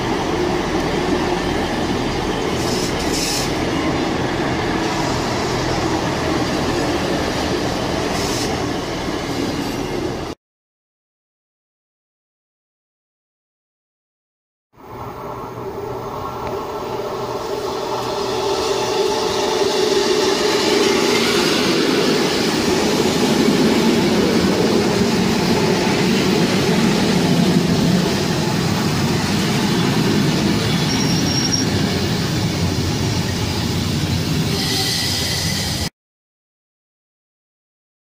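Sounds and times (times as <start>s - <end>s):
train wheels rumbling on rails: 0.0s - 10.4s, 15.3s - 35.9s.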